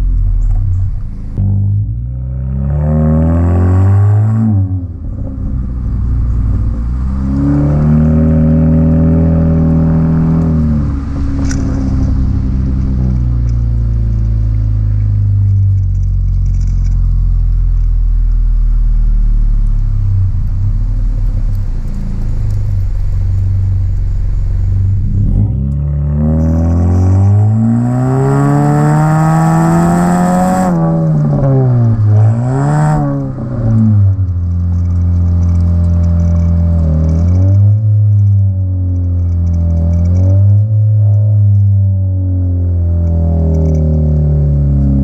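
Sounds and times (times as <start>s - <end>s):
car engine revving: 0.0s - 45.0s
exhaust drone: 0.0s - 45.0s.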